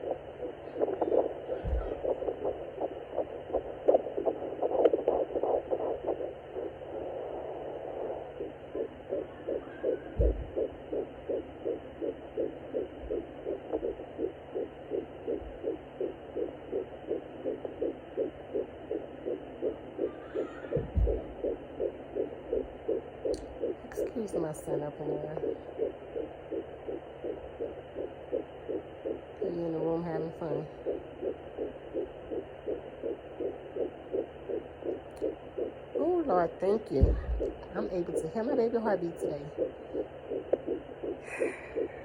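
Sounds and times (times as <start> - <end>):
doppler heartbeat whooshing: 0.0 - 42.0
probe thumps: 0.0 - 42.0.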